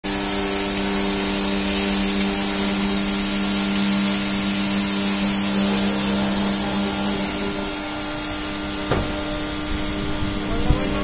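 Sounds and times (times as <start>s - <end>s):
motor humming: 0.0s - 11.0s
water jet spraying on metal roof: 0.0s - 11.0s.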